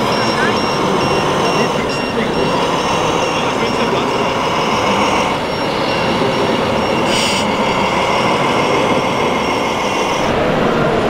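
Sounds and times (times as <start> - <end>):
model trucks mechanical din: 0.0 - 11.0.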